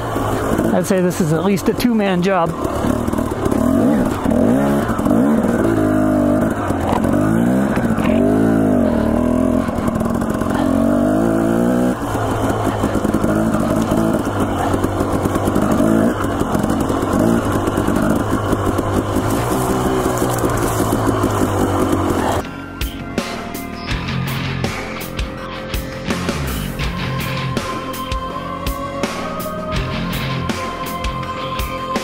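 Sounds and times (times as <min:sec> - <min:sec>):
dirt bike engine revving: 0:00.0 - 0:22.5, 0:23.2 - 0:28.1.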